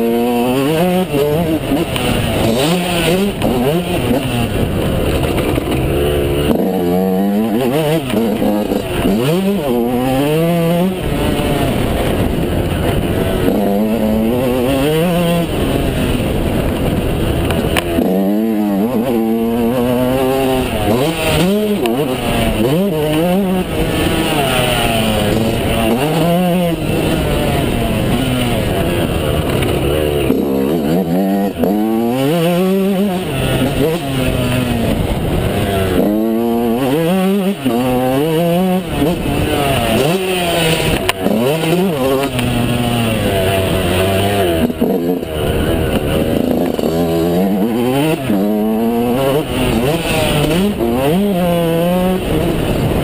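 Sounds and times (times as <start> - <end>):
two-stroke motorcycle engine revving: 0.0 - 53.0.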